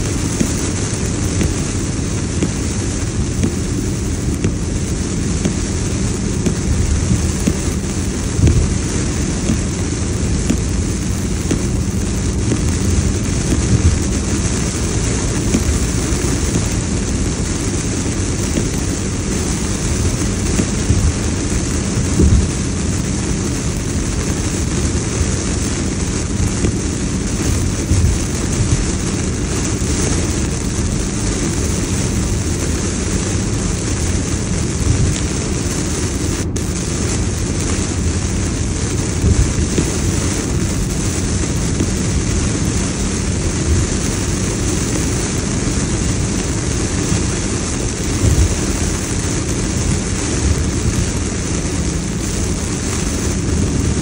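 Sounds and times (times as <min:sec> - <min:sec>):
low thumps: 0:00.0 - 0:32.6, 0:34.7 - 0:51.0
heavy rain on a car: 0:00.0 - 0:54.0
tyres hissing on wet road: 0:00.0 - 0:54.0.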